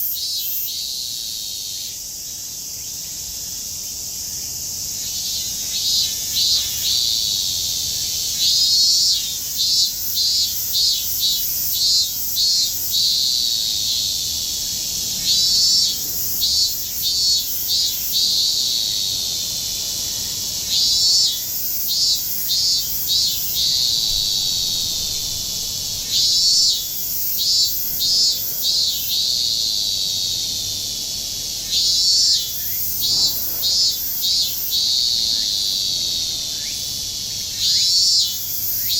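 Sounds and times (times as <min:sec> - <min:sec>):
cicada pulsed calls: 0:00.0 - 0:38.9
cicadas buzzing: 0:00.0 - 0:38.9.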